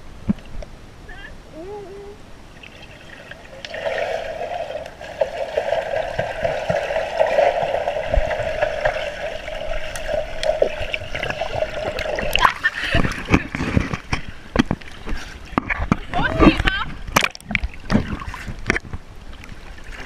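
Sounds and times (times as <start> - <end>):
swimmers kicking underwater: 2.6 - 19.0.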